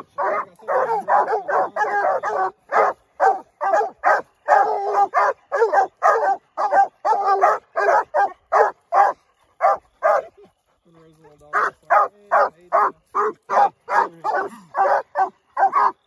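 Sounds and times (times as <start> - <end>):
dogs baying and barking: 0.0 - 16.0.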